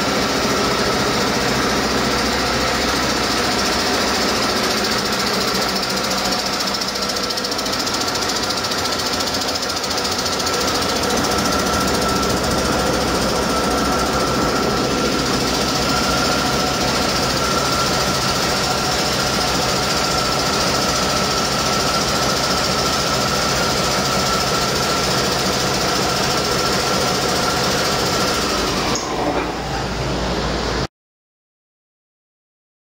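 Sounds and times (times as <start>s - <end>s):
steady high whine: 0.0s - 29.2s
diesel engine running: 0.0s - 30.9s.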